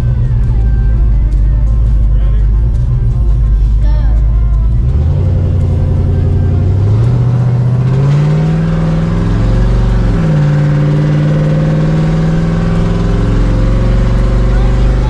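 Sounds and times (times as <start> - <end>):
vehicle engine accelerating: 0.0 - 15.0.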